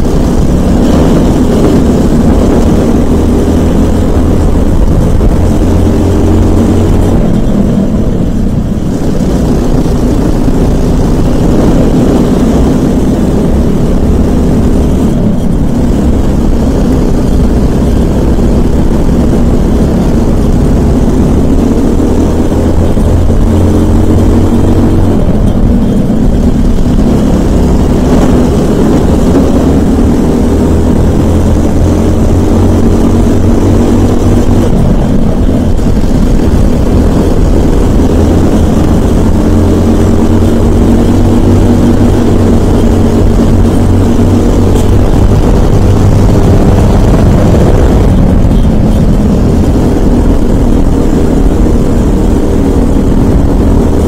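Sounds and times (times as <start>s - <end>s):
kart engine accelerating: 0.0s - 54.0s.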